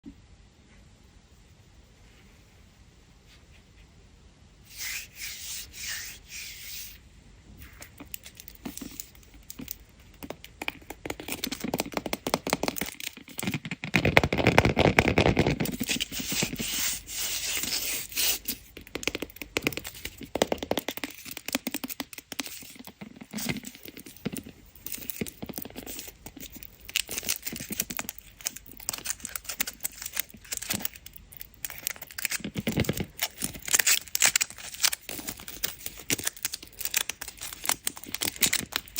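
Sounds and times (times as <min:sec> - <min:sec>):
candy wrappers crinkling and tearing: 0:07.6 - 0:38.9.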